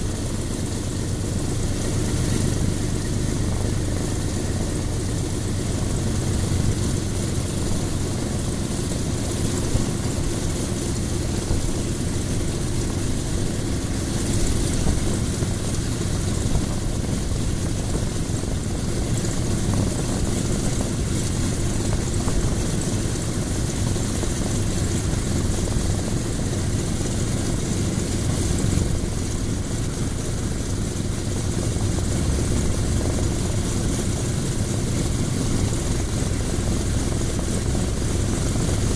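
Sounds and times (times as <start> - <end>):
radial aircraft engine running: 0.0 - 38.9.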